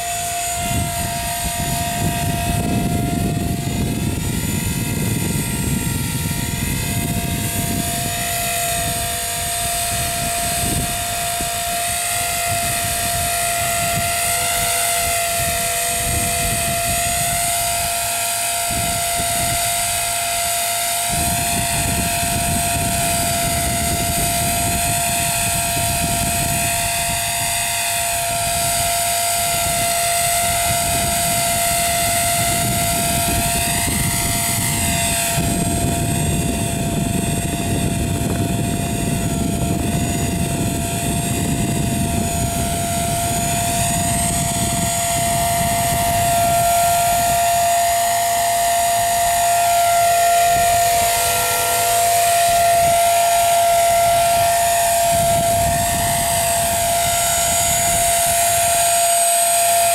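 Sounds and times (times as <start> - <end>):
rc helicopter motor whine: 0.0 - 59.9
rotors buzzing: 0.0 - 59.9.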